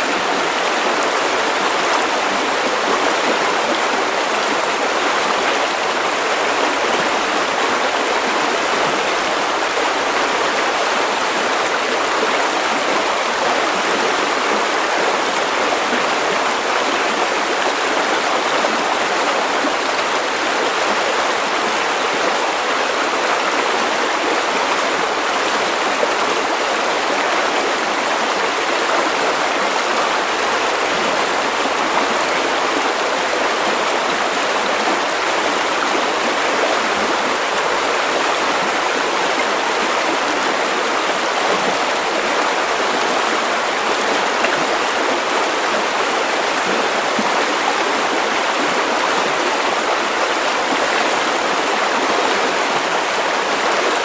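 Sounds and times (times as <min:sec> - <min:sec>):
river water over stones: 0:00.0 - 0:54.0.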